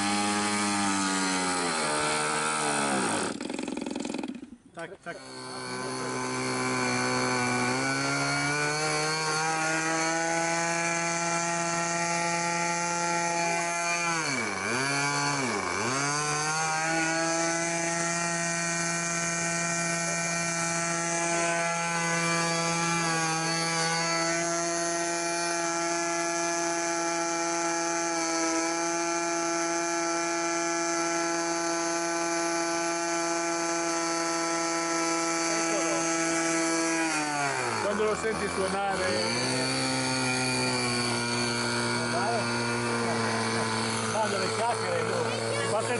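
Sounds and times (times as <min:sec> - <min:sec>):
model airplane engine running: 0:00.0 - 0:45.9.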